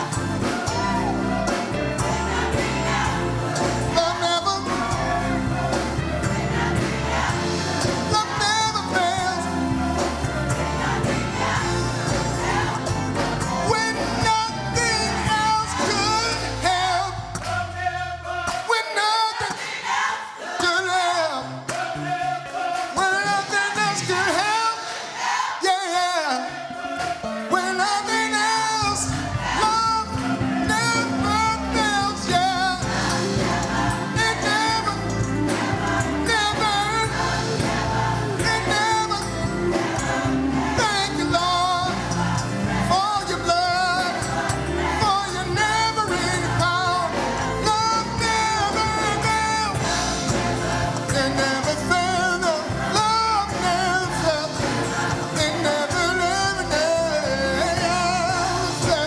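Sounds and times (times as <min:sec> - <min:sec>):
instrumental accompaniment: 0:00.0 - 0:18.7, 0:26.4 - 0:59.0
gospel choir singing: 0:00.0 - 0:59.0.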